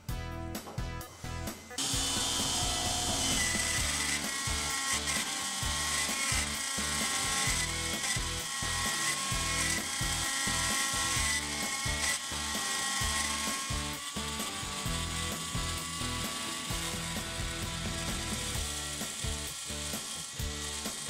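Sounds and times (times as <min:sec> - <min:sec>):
router spindle whining: 0:01.3 - 0:21.0
stepper motors humming: 0:01.8 - 0:21.0.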